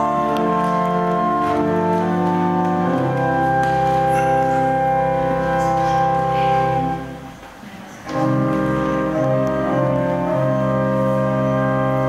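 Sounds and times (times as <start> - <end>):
pipe organ chords: 0.0 - 7.4, 8.0 - 12.0.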